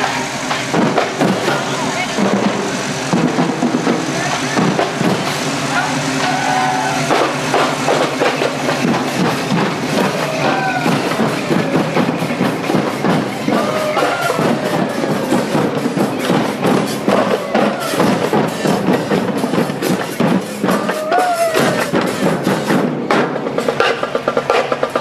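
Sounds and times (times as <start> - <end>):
marching band drums: 0.0 - 25.0.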